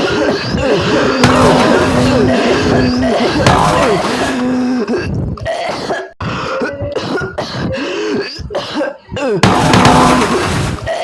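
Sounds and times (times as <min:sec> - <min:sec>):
throat-clearing noises: 0:00.0 - 0:09.5
person coughing goofily: 0:00.0 - 0:11.0.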